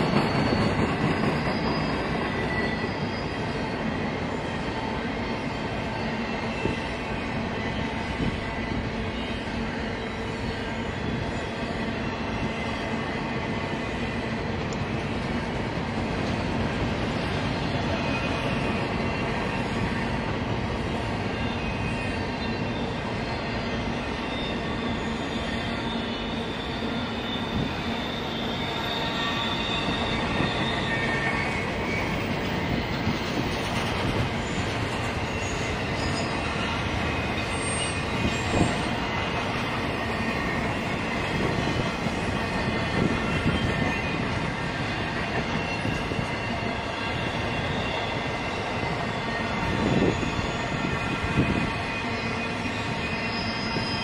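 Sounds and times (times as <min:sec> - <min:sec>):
high wheel squeal: 0:00.0 - 0:14.5, 0:16.2 - 0:54.0
freight train wheels rumbling: 0:00.0 - 0:54.0.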